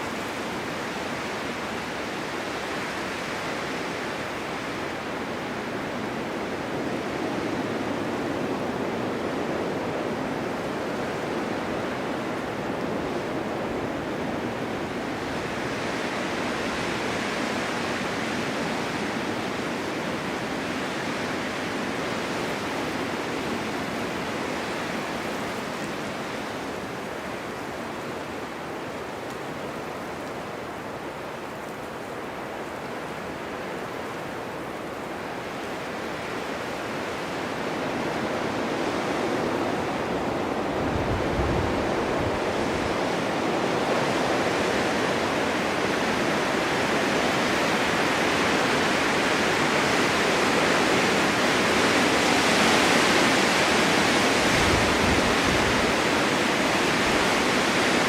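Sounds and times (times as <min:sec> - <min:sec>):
blizzard wind blowing snow: 0:00.0 - 0:58.0
low wind buffets: 0:00.0 - 0:58.0.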